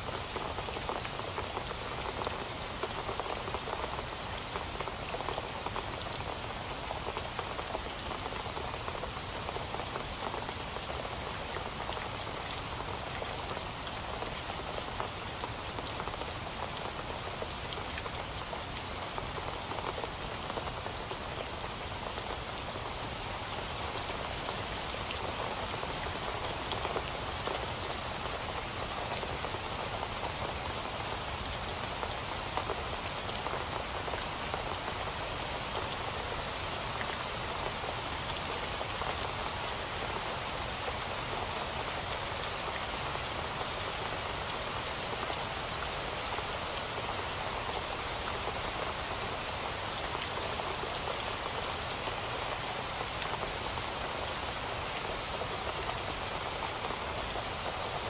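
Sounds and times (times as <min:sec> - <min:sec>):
rain drops ticking on a surface: 0:00.0 - 0:58.0.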